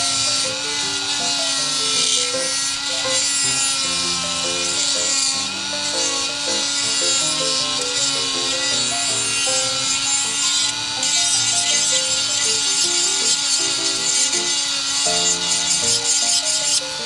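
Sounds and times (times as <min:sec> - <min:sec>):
background music: 0:00.0 - 0:17.0
bit grinding plastic: 0:00.0 - 0:17.0
rotary tool whining: 0:00.0 - 0:17.0.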